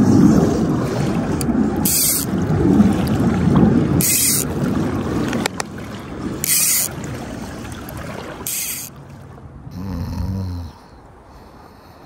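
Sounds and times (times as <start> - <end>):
oars splashing through water: 0.0 - 9.7
steady low rumble: 0.0 - 12.0.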